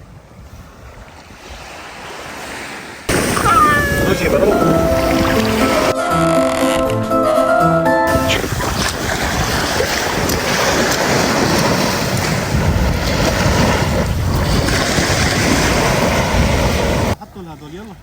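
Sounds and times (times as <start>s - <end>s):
wind buffeting microphone: 0.0s - 5.9s, 8.2s - 17.2s
sea surf: 0.0s - 18.0s.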